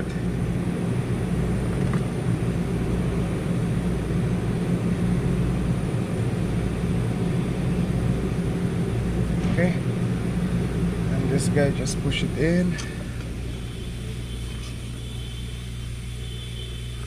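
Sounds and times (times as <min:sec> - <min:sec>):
workshop machinery humming: 0:00.0 - 0:17.0.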